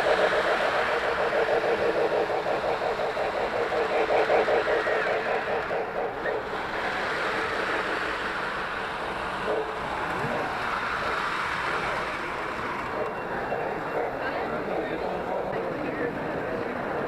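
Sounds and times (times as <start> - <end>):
crowd hubbub: 0.0 - 17.0
model trains rolling on metal track: 0.0 - 17.0.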